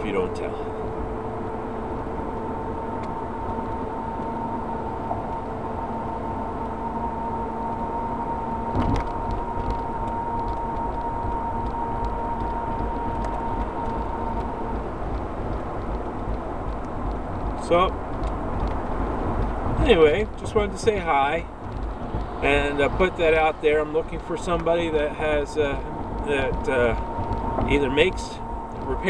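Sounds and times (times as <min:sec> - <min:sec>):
car interior rumble and road hiss: 0:00.0 - 0:29.0
faint steady whine: 0:00.0 - 0:29.0.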